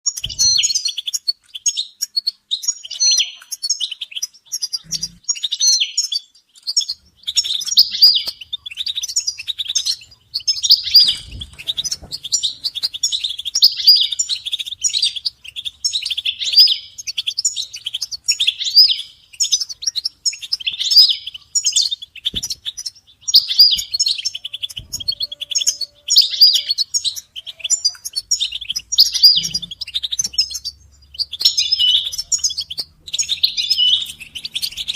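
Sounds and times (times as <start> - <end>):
goldfinches chattering: 0.1 - 34.9.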